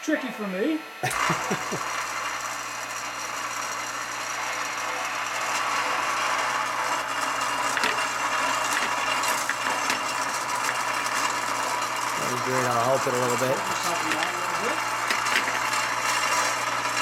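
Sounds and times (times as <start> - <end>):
electric hum and mechanical buzz: 0.0 - 17.0.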